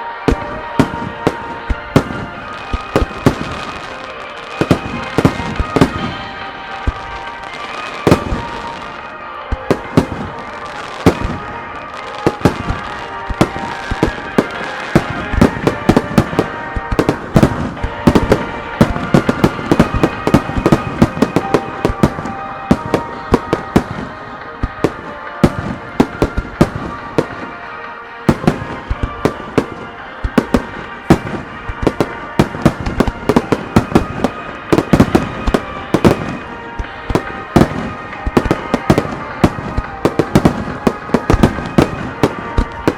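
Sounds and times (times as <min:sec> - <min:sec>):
music playing: 0:00.0 - 0:42.9.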